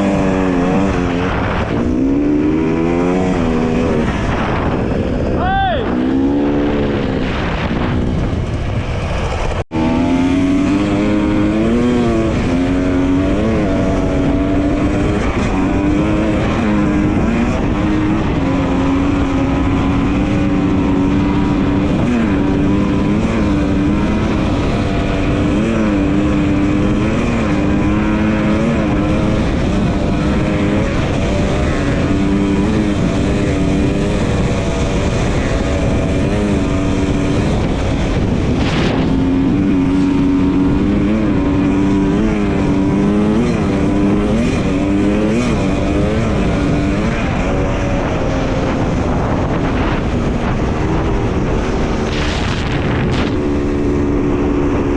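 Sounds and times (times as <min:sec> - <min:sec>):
dirt bike engine running: 0:00.0 - 0:54.9
steady rushing noise: 0:00.0 - 0:54.9.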